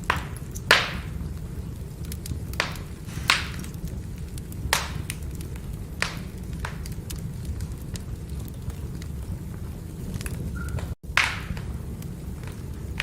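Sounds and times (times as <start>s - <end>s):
firewood crackling and popping: 0.0s - 13.0s.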